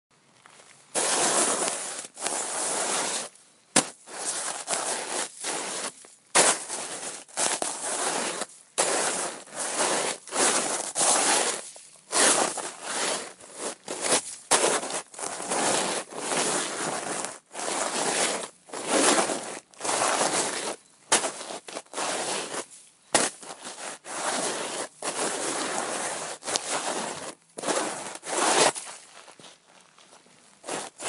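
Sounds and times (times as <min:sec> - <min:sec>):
snow shovel scraping through snow: 0:01.0 - 0:29.4, 0:30.6 - 0:31.0.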